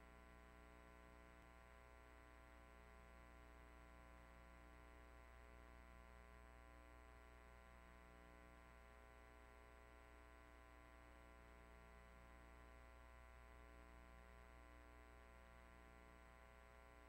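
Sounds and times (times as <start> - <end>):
faint electrical mains hum: 0.0 - 17.0.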